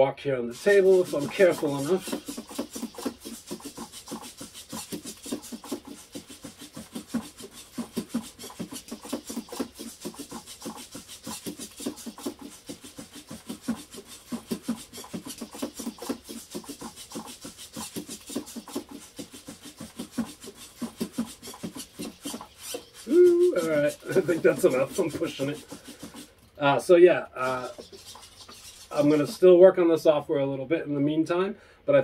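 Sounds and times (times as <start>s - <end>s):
servos whirring: 0.5s - 26.6s, 27.3s - 29.5s.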